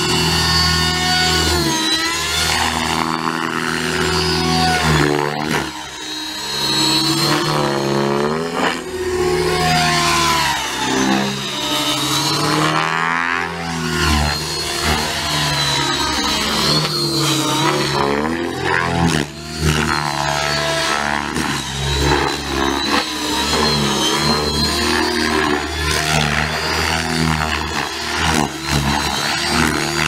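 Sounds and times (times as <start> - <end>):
model helicopter rotors buzzing: 0.0 - 30.0.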